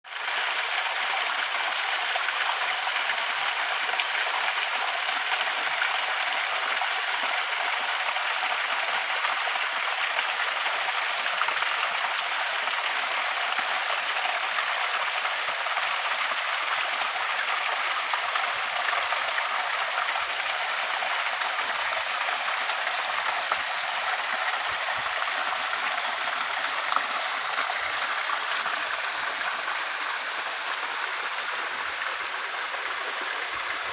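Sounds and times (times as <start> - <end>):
waterfall rushing and splashing: 0.1 - 33.9.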